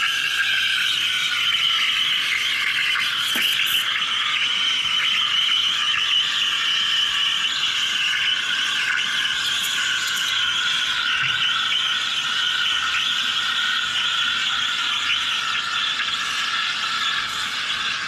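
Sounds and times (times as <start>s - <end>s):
steam wand steaming milk: 0.0s - 18.0s.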